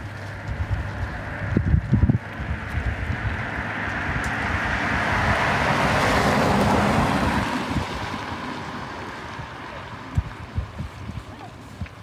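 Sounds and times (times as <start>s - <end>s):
vehicle driving past: 0.0s - 10.0s.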